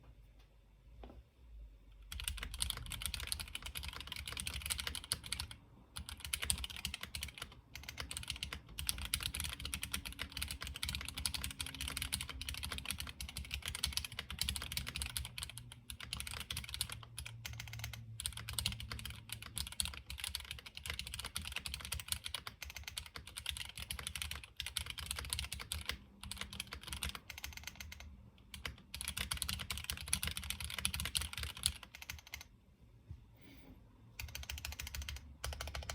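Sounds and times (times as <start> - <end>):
fast mechanical keyboard typing: 2.0 - 32.6, 34.2 - 35.9.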